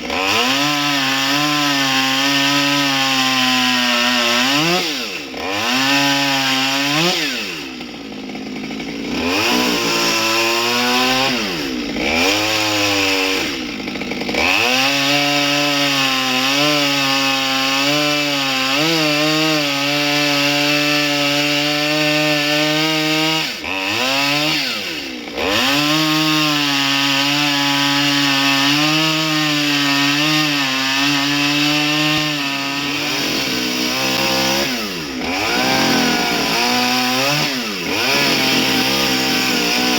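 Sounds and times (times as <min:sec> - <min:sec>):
chainsaw carving wood: 0:00.0 - 0:39.9.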